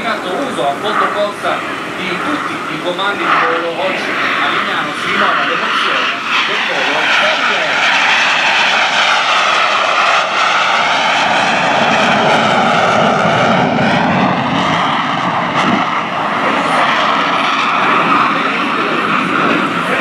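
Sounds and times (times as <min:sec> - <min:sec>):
jet flying close by: 0:00.0 - 0:20.0
wavering turbojet whine: 0:00.0 - 0:20.0.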